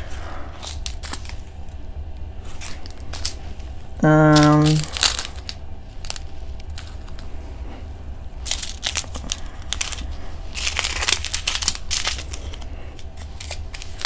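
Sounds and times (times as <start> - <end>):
plastic bags crinkling: 0.0 - 1.8, 2.4 - 7.3, 8.4 - 14.0.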